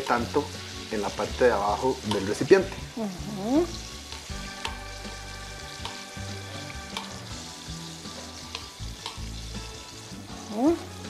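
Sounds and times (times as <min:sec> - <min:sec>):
margarine sizzling in a pot: 0:00.0 - 0:11.0.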